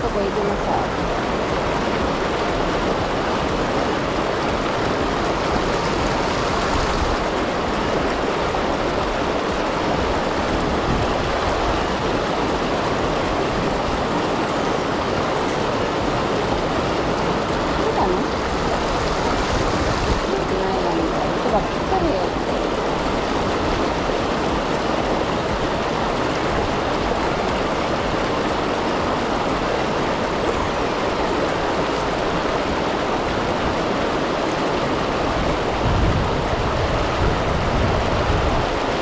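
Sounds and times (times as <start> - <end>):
river rushing over rocks: 0.0 - 39.0.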